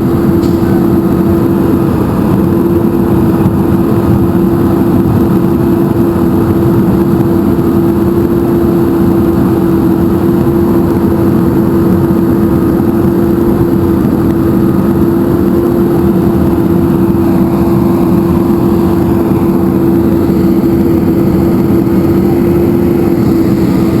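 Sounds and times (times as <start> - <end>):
machine engine humming: 0.0 - 24.0.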